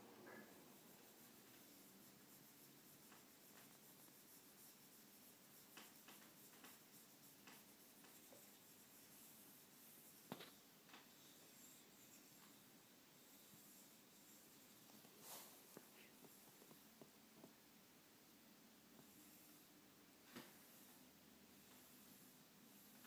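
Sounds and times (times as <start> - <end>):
rosin rubbing on bow hair: 0.6 - 17.0, 20.5 - 23.0.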